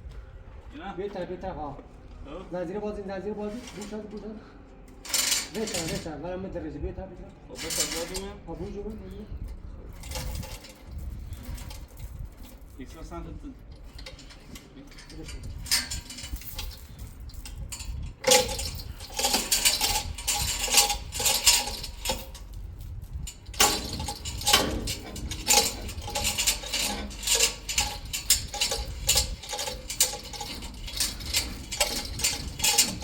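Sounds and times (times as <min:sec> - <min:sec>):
metal chain rattling: 0:05.0 - 0:06.1, 0:07.6 - 0:33.0.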